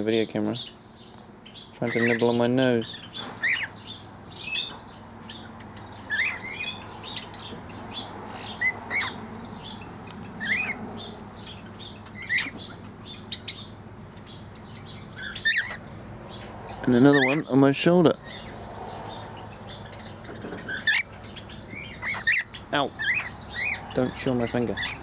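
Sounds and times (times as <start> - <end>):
high bird twitters: 0.0 - 17.5, 18.1 - 25.0
birds chirping: 0.0 - 25.0.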